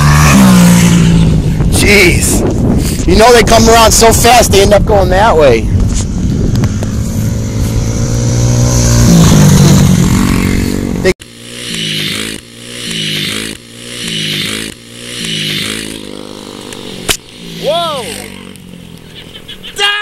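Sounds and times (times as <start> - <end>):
dirt bike engine revving: 0.0 - 4.2, 6.0 - 19.8.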